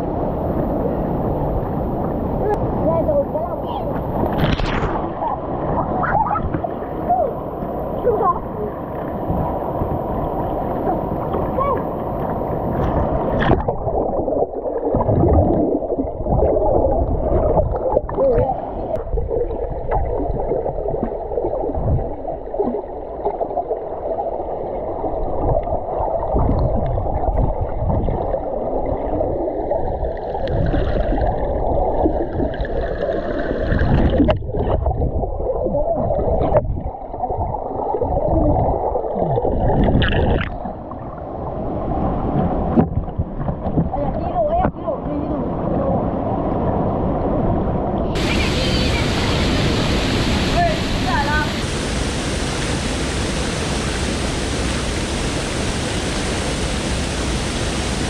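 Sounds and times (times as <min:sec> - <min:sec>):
underwater gurgling and bubbles: 0:00.0 - 0:58.0.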